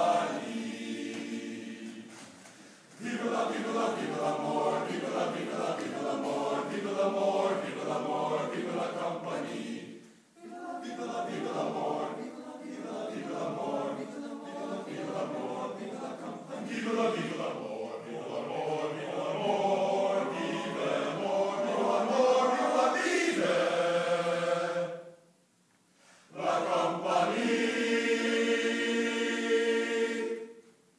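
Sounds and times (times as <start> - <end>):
men's choir singing: 0.0 - 25.2, 26.3 - 30.7.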